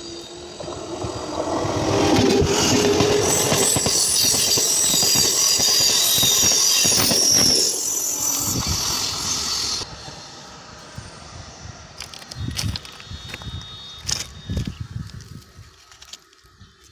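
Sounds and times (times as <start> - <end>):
wheel squeal: 0.0 - 16.6
train coaches rolling past: 0.0 - 16.8.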